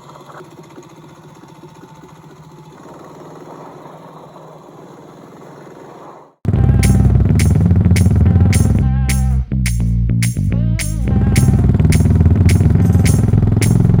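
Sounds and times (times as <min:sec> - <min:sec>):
motorcycle engine idling: 0:00.0 - 0:05.7, 0:06.5 - 0:09.3, 0:10.8 - 0:14.0.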